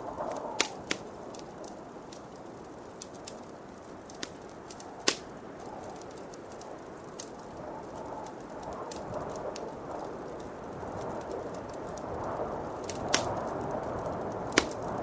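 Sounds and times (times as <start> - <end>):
low rush of wind: 0.0 - 15.0
wood fire crackling: 0.0 - 15.0.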